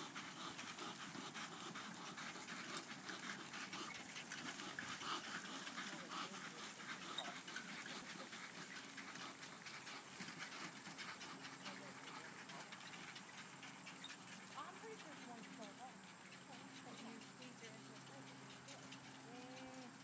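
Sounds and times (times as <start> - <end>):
hoofbeats on grass: 0.0 - 20.0.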